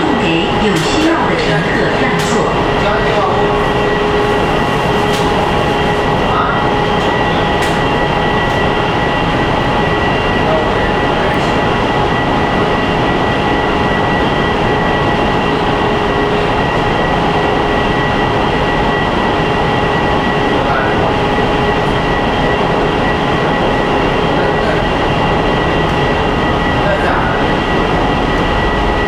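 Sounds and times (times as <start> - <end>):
high whining tones: 0.0 - 29.0
train wheels rushing on rail: 0.0 - 29.0.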